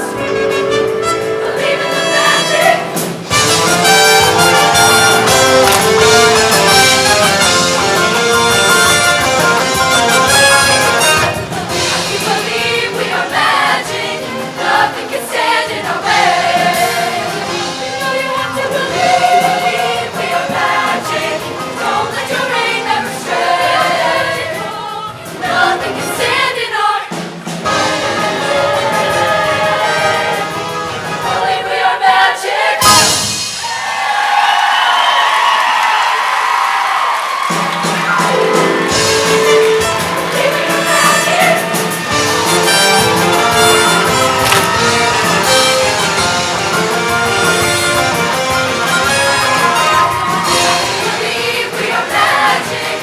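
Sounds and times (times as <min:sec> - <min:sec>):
live band playing: 0:00.0 - 0:31.5, 0:32.8 - 0:33.8, 0:37.3 - 0:53.0
choir singing: 0:00.0 - 0:33.4, 0:38.1 - 0:53.0.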